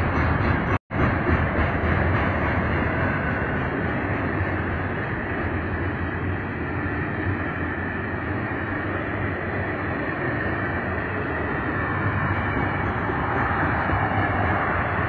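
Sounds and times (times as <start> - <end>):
low hum: 0.0 - 15.0
steel wheels on rail: 0.0 - 15.0.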